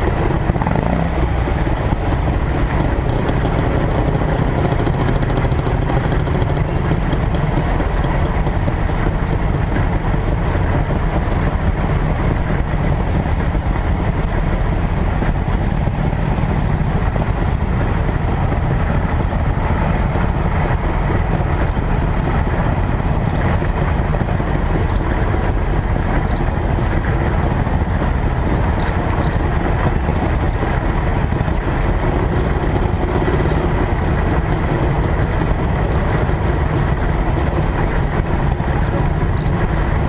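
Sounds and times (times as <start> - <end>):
car driving rumble: 0.0 - 40.0.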